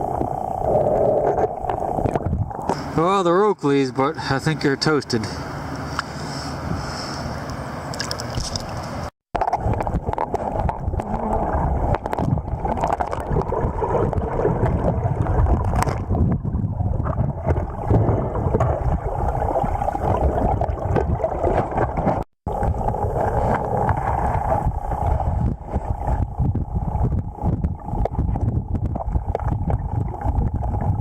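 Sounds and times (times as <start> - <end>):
muffled underwater river rushing: 0.0 - 3.4, 8.2 - 31.0.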